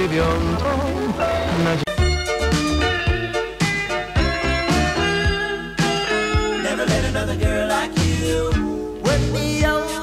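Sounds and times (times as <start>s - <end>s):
music with steady drum beat: 1.9s - 10.0s.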